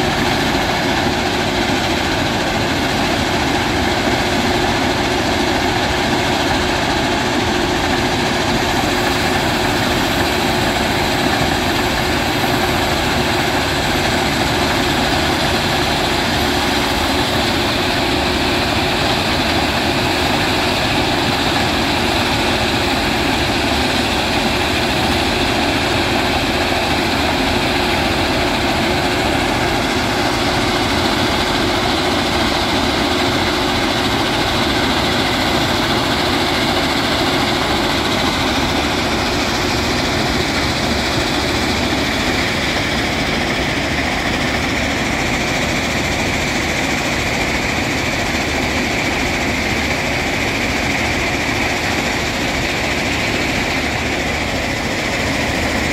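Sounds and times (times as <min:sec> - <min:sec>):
heavy machine mechanical drone: 0:00.0 - 0:55.9.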